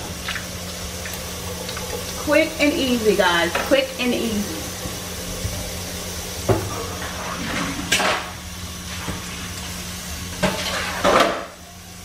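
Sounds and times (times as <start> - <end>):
sandwiches sizzling in hot oil: 0.0 - 12.0.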